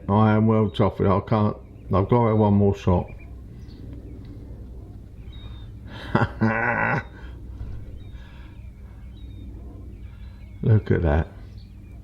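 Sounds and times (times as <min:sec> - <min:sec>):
faint bird chirps: 0:00.0 - 0:05.9, 0:06.9 - 0:12.0
steady low rumble: 0:00.0 - 0:12.0.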